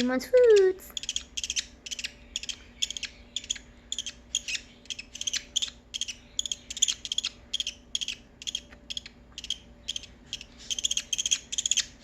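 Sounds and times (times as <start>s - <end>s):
baby budgerigar begging chirps: 0.0s - 12.0s.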